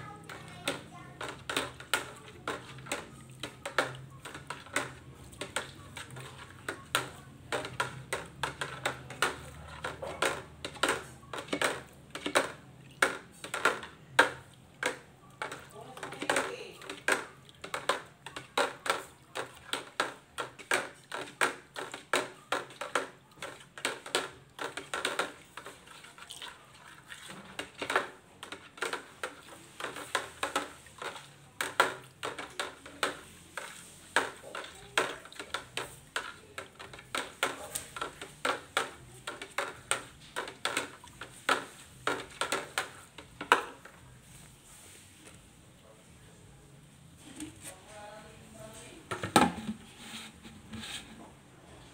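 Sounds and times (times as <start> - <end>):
wire skimmer tapping plastic bucket: 0.0 - 26.5, 27.2 - 44.0.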